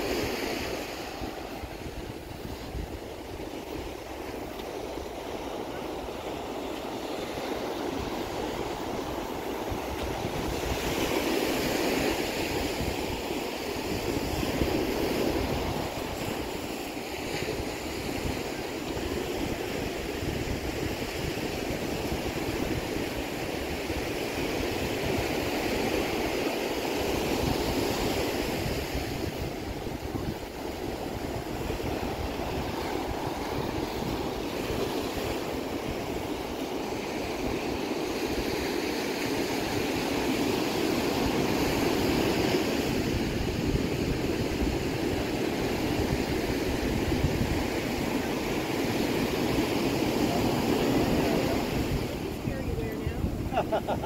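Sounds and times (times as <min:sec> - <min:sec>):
ocean surf breaking: 0:00.0 - 0:54.0
wind rumbling on microphone: 0:00.0 - 0:54.0.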